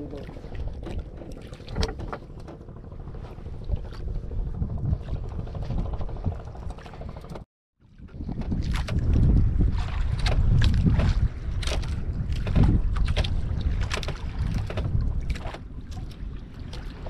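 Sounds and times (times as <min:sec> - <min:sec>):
water sloshing around boat: 0:00.0 - 0:17.0
wind on microphone: 0:00.0 - 0:17.0.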